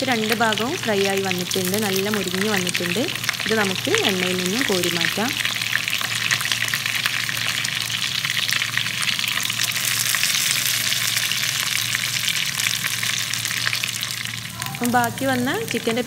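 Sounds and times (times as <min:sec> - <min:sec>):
chicken deep-frying in oil: 0:00.0 - 0:16.0.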